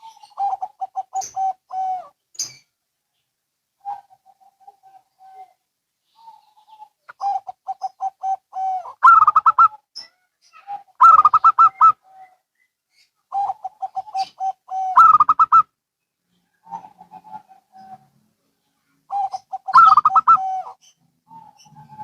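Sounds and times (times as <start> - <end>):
doves cooing song: 0.0 - 2.7, 3.8 - 18.4, 19.1 - 22.0.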